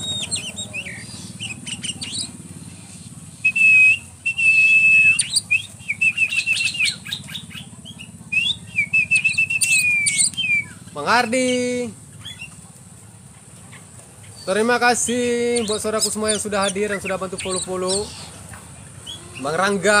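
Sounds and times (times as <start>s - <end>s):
bird chirps: 0.0s - 13.0s, 13.6s - 20.0s.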